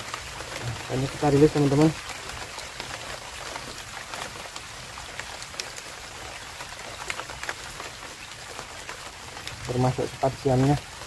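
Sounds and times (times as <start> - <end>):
light rain on water: 0.0 - 11.0.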